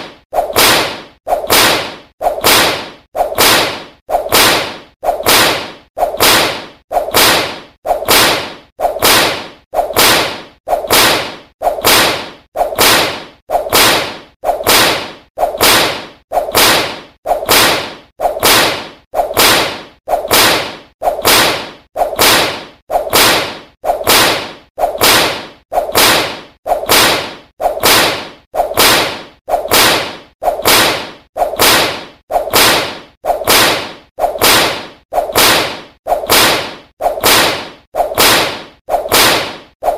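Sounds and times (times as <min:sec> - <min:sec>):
whip cracks: 0:00.0 - 0:39.9.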